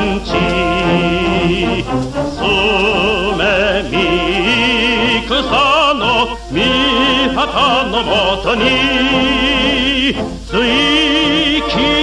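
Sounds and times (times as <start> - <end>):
instrumental accompaniment: 0.0 - 12.0
person singing with vibrato: 0.0 - 12.0.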